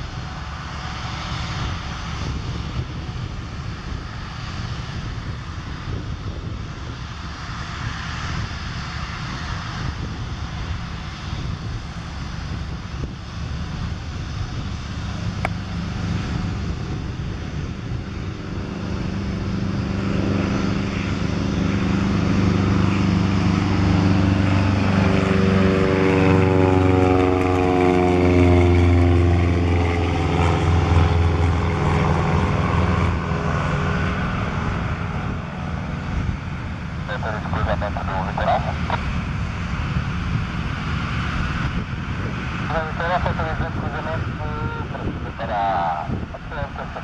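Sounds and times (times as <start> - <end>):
propeller plane engine passing: 0.0 - 47.0.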